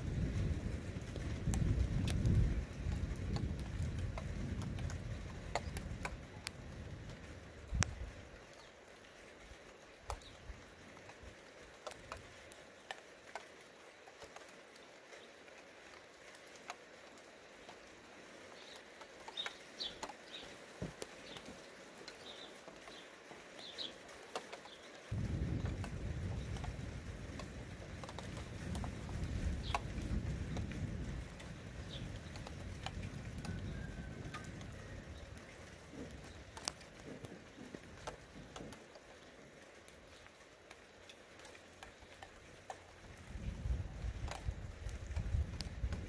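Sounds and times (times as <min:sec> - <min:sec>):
raindrops pattering: 0:00.0 - 0:46.0.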